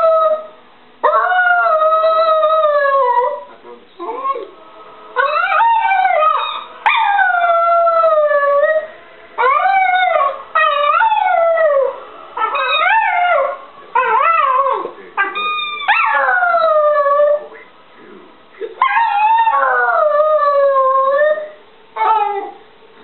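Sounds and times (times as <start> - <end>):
dog howling: 0.0 - 4.6, 5.2 - 17.7, 18.7 - 22.6.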